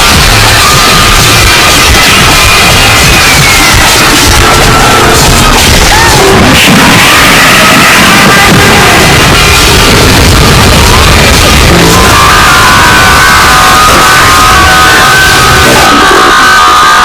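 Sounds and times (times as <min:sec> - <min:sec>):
loud distorted music: 0:00.0 - 0:17.0.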